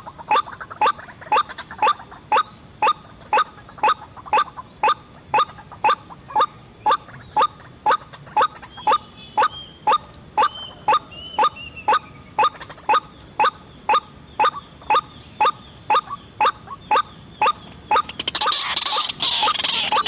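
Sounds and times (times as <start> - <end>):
rough dense bird sound: 0.0 - 20.0
waterhen calling: 0.0 - 20.0.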